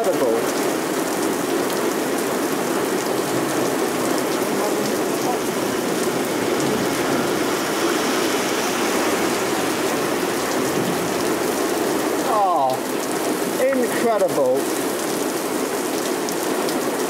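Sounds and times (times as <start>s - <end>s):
torrential rain pouring down: 0.0s - 17.0s.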